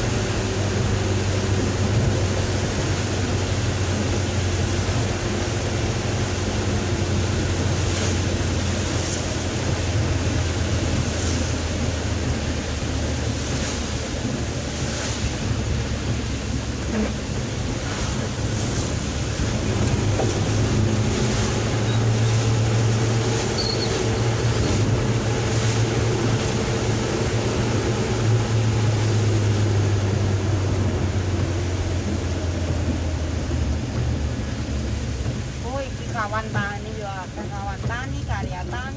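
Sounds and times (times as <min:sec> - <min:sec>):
heavy rain: 0:00.0 - 0:38.9
low engine hum: 0:00.0 - 0:38.9
road noise: 0:00.0 - 0:38.9.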